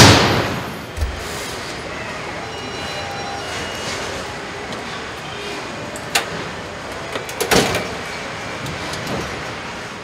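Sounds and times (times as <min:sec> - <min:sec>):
machinery noise: 0:00.3 - 0:10.0.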